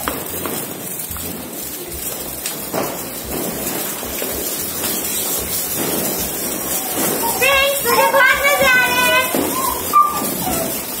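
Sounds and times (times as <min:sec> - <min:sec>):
sparklers fizzing and crackling: 0:00.0 - 0:11.0.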